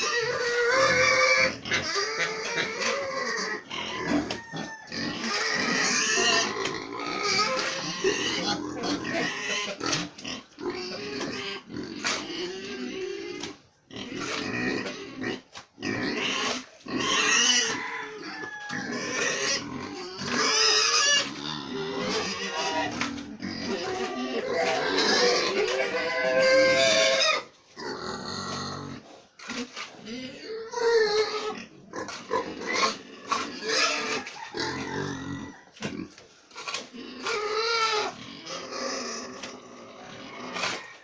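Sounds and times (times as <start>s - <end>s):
pigs calling: 0.0s - 41.0s.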